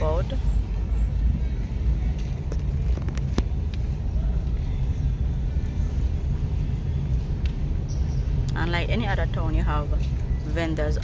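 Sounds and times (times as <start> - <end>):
moving car rumble: 0.0 - 11.0.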